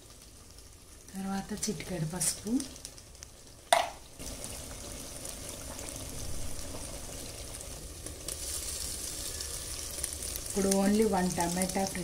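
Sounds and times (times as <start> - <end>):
potatoes and onions sizzling in oil: 0.0 - 12.0.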